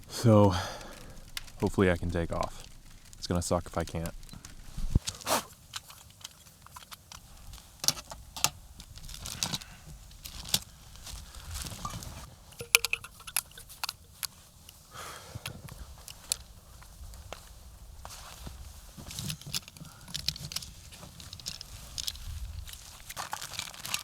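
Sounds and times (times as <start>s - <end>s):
camp cooking gear handled in snow: 0.1s - 24.0s.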